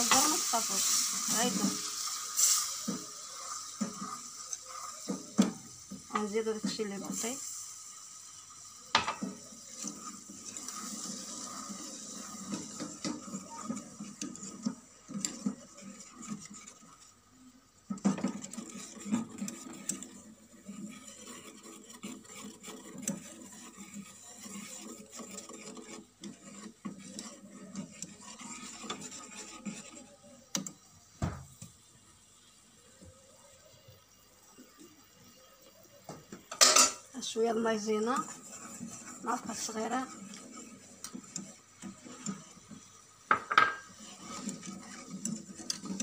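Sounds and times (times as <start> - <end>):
whisk scraping a metal pan: 0.0 - 30.8, 36.1 - 46.0.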